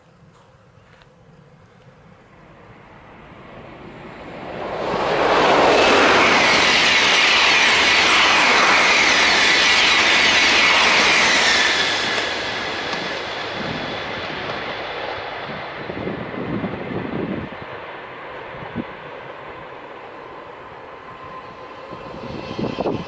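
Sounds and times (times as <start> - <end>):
high-speed train passing: 0.7 - 23.0.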